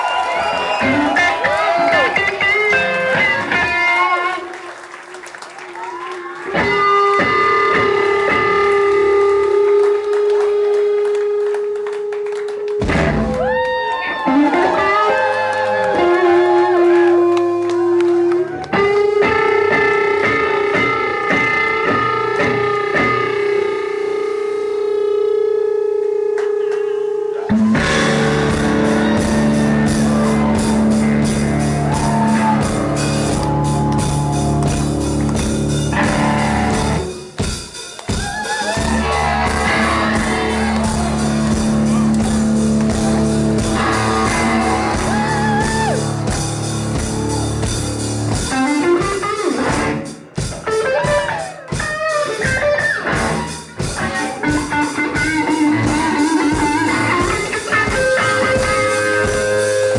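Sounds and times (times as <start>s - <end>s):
distorted electric guitar: 0.8s - 4.5s, 6.5s - 37.6s, 38.4s - 59.9s
drum kit: 6.5s - 24.2s, 27.5s - 59.9s.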